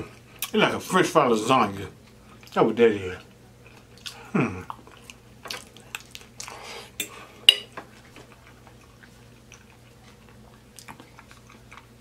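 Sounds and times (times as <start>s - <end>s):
chewing food: 2.0s - 12.0s.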